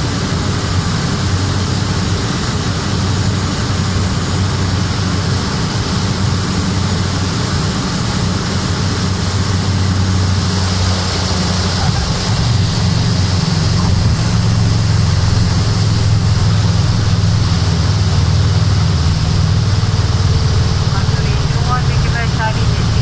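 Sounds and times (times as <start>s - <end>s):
turboprop engine running: 0.0s - 23.0s.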